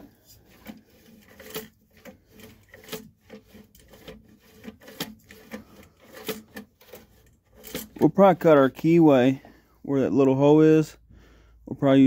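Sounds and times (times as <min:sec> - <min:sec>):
metal scraping on metal: 0:00.0 - 0:09.7.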